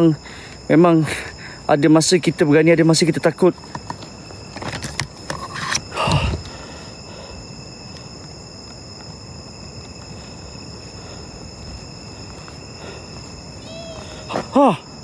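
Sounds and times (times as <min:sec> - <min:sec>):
crickets and night insects trilling: 0:00.0 - 0:15.0.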